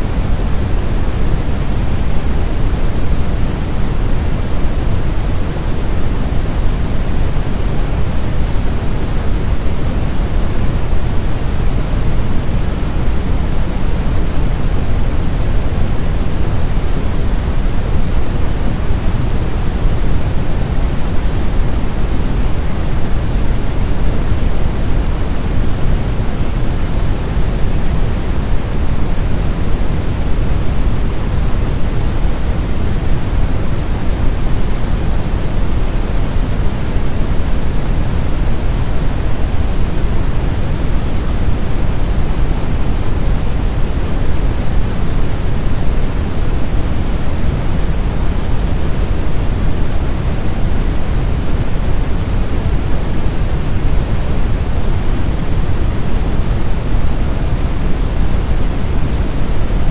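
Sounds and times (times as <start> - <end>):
brown noise: 0.0 - 59.9.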